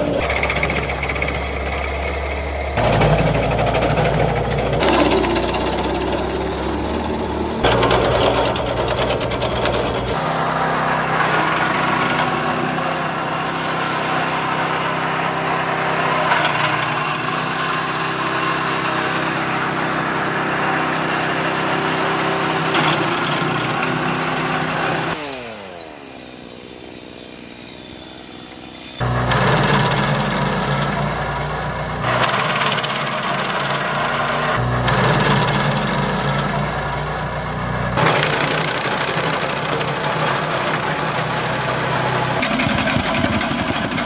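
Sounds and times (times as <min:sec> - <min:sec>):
wood chipper chipping branches: 0:00.0 - 0:44.0.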